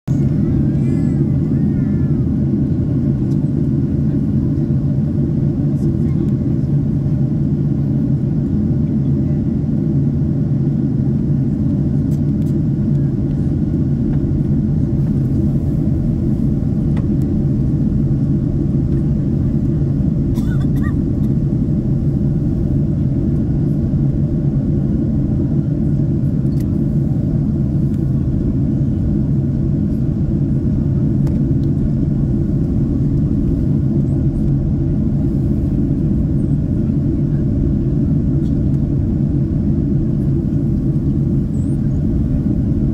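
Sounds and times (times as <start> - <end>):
airliner cabin engine rumble: 0.0 - 42.9.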